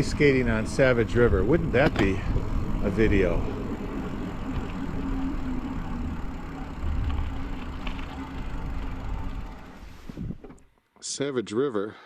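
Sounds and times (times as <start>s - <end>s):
bicycle tyres rolling on road: 0.0s - 10.8s.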